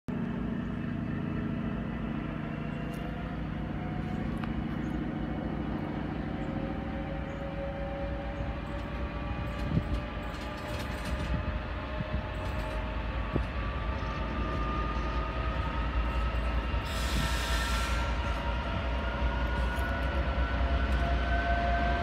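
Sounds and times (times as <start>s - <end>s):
locomotive diesel engine drone: 0.1s - 22.0s.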